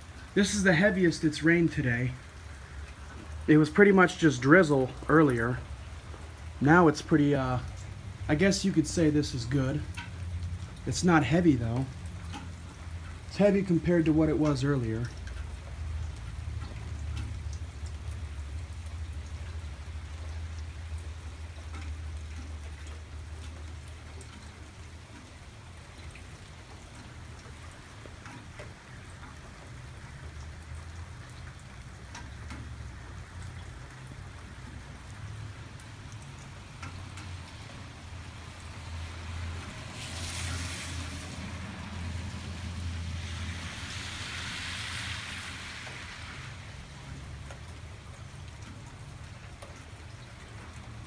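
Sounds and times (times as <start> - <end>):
rain falling: 0.0 - 51.0
raindrops ticking on surfaces: 0.0 - 51.0.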